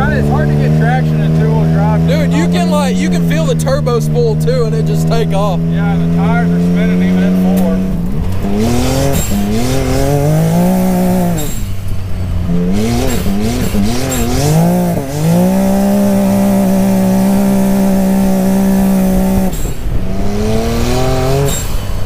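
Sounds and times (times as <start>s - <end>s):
engine accelerating hard: 0.0s - 22.0s.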